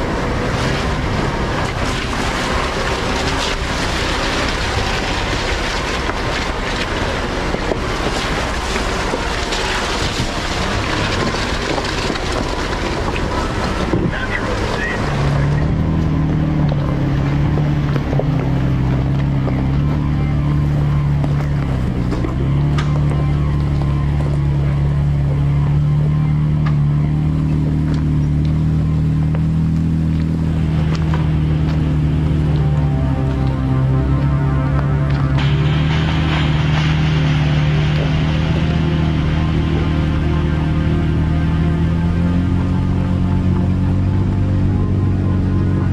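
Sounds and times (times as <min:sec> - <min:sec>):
low engine hum: 0:00.0 - 0:45.9.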